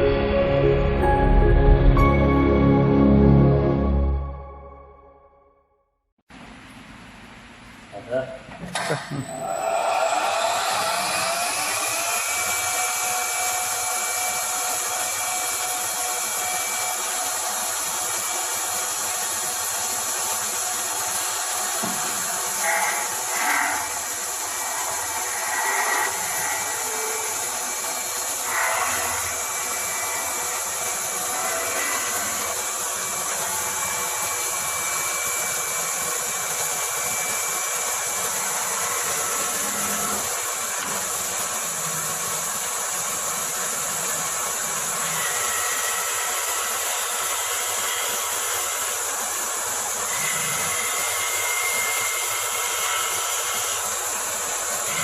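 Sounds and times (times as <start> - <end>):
lathe cutting wood: 9.5 - 55.0.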